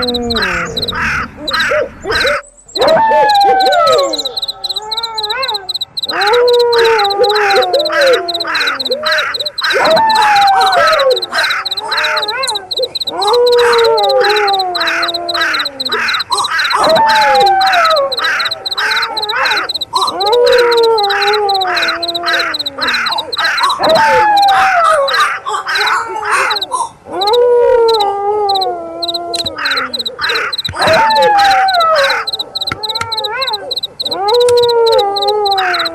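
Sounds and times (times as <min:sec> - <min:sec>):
crickets chirping: 0:00.0 - 0:35.9
wolf howling: 0:00.0 - 0:35.9.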